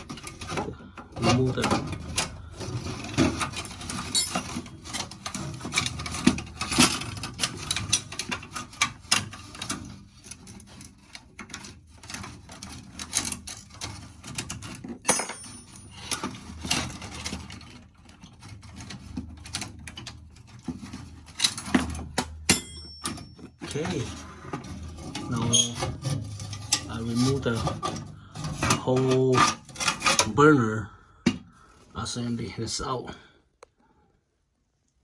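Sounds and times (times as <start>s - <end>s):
metal clicks and scrapes: 0.0s - 30.5s.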